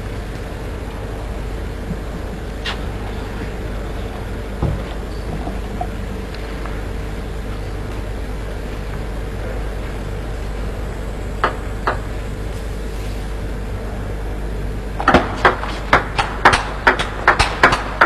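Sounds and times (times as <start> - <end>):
arena hum: 0.0 - 18.0.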